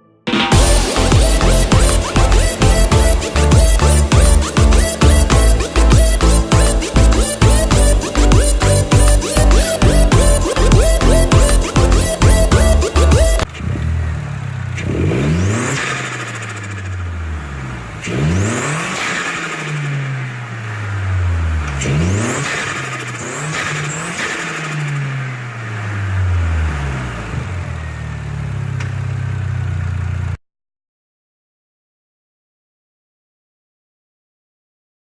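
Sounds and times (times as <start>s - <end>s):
car engine revving: 0.5s - 30.2s.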